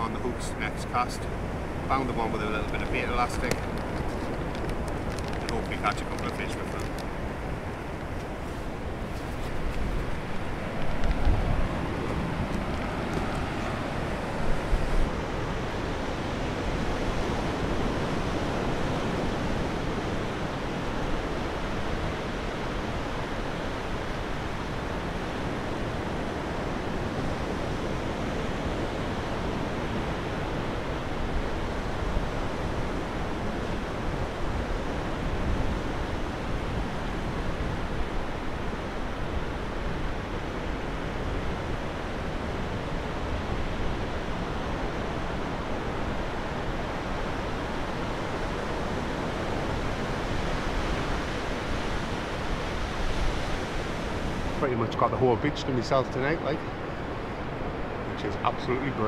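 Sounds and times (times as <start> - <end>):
surf breaking on beach: 0.0 - 59.0
wind rumble on microphone: 0.0 - 59.0.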